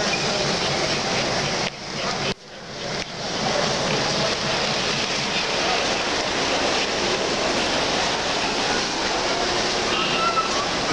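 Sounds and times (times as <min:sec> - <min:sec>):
exhibition hall noise: 0:00.0 - 0:10.9
model train wheels whirring: 0:00.0 - 0:10.9.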